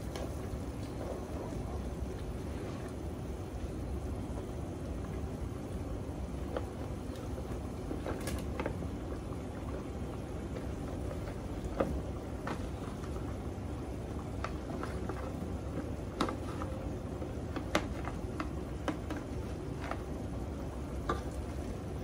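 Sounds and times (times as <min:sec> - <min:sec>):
pot simmering rumble: 0:00.0 - 0:22.0.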